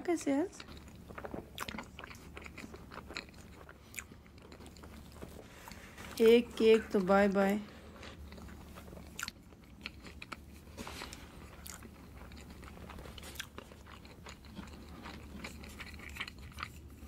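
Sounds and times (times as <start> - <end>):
person chewing soft cake: 0.6 - 17.0.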